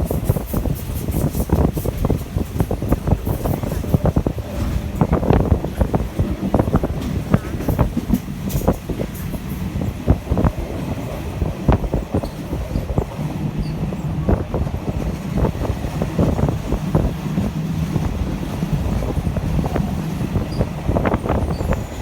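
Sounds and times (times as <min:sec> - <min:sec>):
train rumbling on track: 0:00.0 - 0:22.0
train wheels clacking: 0:00.0 - 0:22.0.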